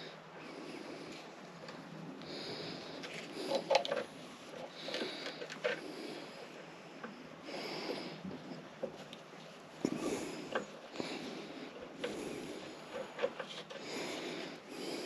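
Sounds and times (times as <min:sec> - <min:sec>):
man breathing hard: 0:00.0 - 0:04.0, 0:04.6 - 0:08.8, 0:09.8 - 0:15.0.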